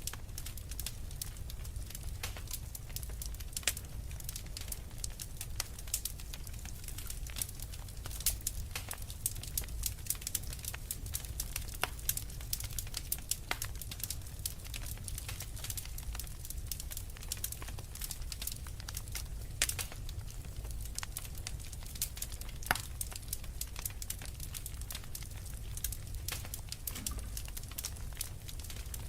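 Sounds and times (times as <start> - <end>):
log fire crackling: 0.0 - 29.0
loud pops of fire: 0.0 - 29.0.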